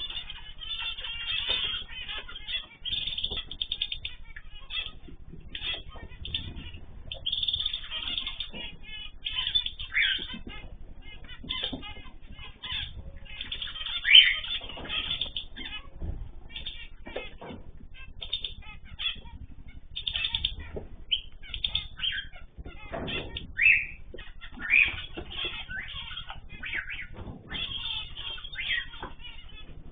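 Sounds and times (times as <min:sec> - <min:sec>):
birds chirping: 0:00.0 - 0:29.9
loud bird calls: 0:00.0 - 0:29.9
wings fluttering: 0:00.0 - 0:29.9.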